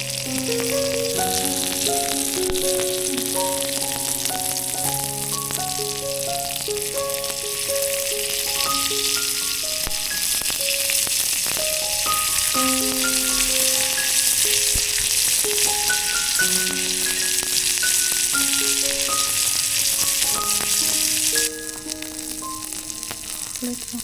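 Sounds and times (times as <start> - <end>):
food frying in hot oil: 0.0 - 24.0
slow melody of held notes: 0.0 - 24.0.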